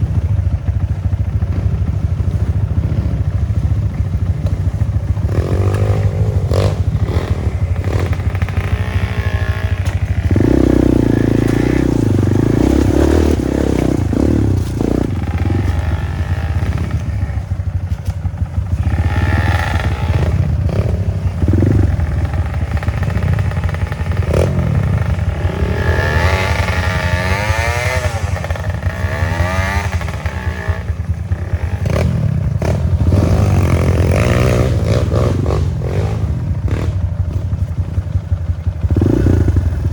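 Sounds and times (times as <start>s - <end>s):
motorcycle engine revving: 0.0s - 39.9s
motorcycle rattling over bumps: 0.0s - 39.9s.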